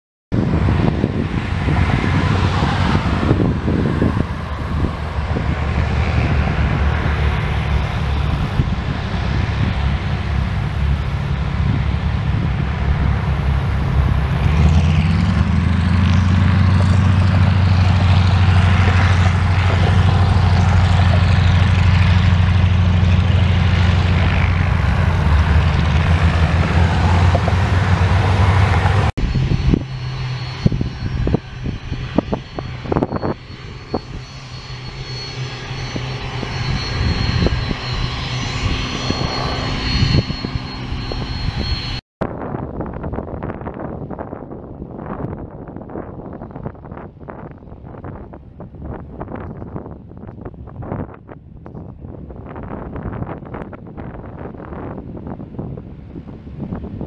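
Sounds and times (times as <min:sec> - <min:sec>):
radial plane engines droning: 0:00.4 - 0:57.0.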